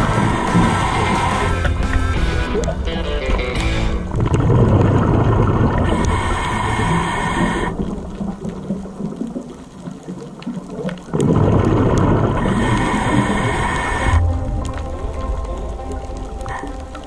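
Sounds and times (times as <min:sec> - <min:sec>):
underwater rushing and bubbling: 0:00.0 - 0:17.0.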